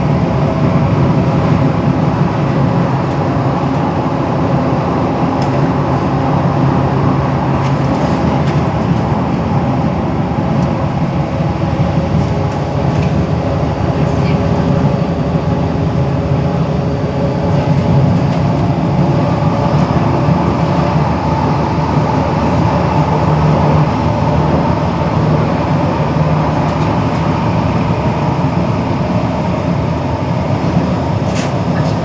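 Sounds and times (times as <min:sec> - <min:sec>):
metro train rumbling: 0:00.0 - 0:32.0.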